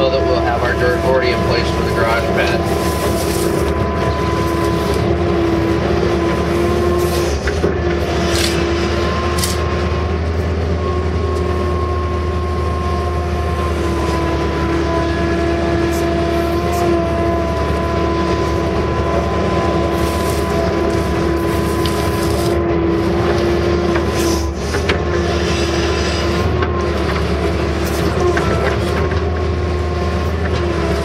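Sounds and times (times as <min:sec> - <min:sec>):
diesel engine running: 0:00.0 - 0:31.0
hydraulic whine: 0:00.0 - 0:31.0.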